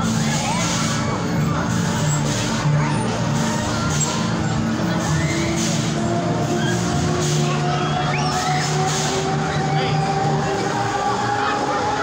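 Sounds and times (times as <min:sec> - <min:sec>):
riders shouting and screaming: 0:00.0 - 0:12.0.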